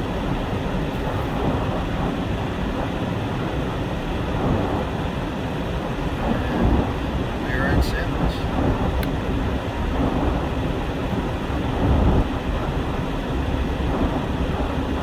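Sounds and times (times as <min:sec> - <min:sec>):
truck engine and tyres rumbling: 0:00.0 - 0:15.0.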